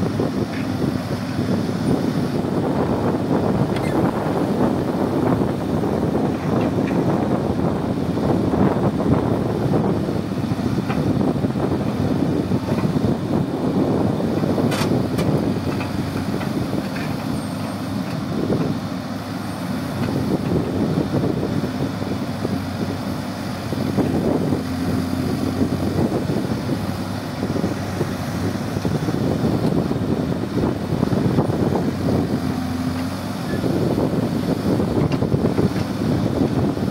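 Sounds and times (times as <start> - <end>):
diesel engine under load: 0.0 - 36.9.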